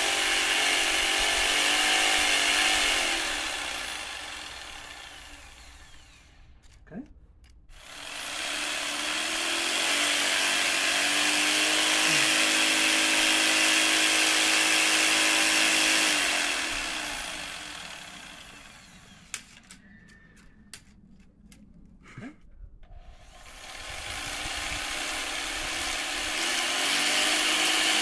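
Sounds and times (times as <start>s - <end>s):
electric jigsaw running: 0.0s - 6.5s, 7.7s - 19.5s, 23.0s - 28.0s.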